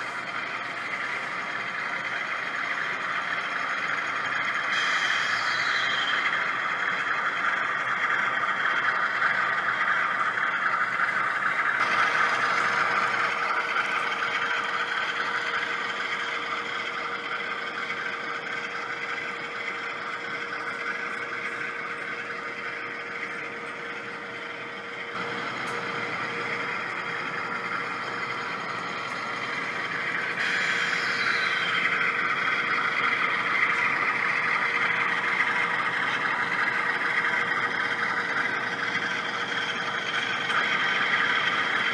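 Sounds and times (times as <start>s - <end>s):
model diesel engine sound: 0.0s - 41.9s
model train wheels rolling: 0.0s - 41.9s.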